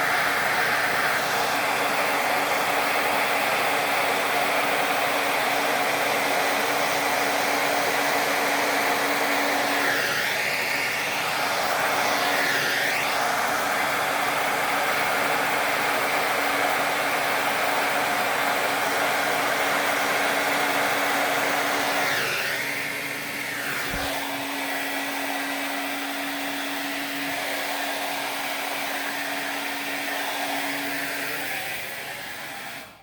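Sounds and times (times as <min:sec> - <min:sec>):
hair dryer blowing: 0:00.0 - 0:33.0.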